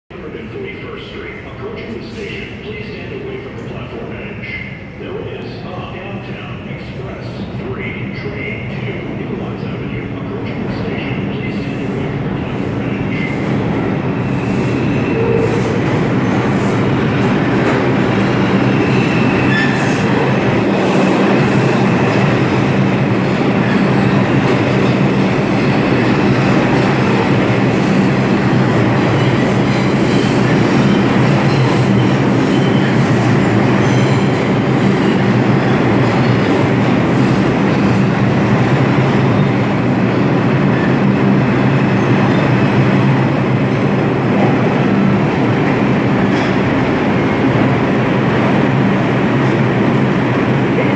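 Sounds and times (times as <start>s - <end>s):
subway train rumbling: 0.1s - 50.9s.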